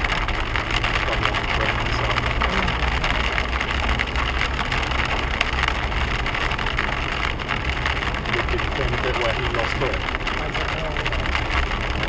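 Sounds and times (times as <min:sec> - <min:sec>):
engine and tyres humming: 0:00.0 - 0:12.0
hail pelting a car: 0:00.0 - 0:12.0.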